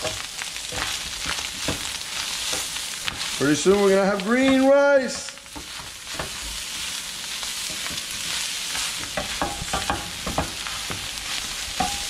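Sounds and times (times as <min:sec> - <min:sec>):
rice sizzling in a frying pan: 0:00.0 - 0:12.0
spatula scraping a pan: 0:00.0 - 0:12.0.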